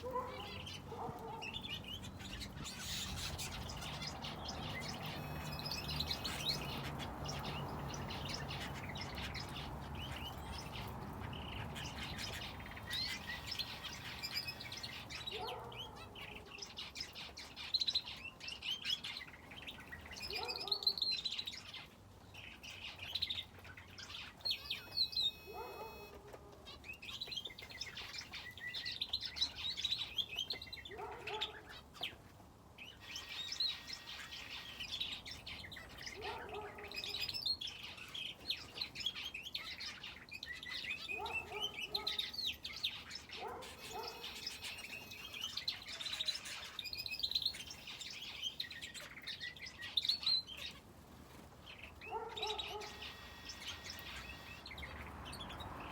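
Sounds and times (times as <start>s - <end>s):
finches and canary twittering: 0.0s - 55.9s.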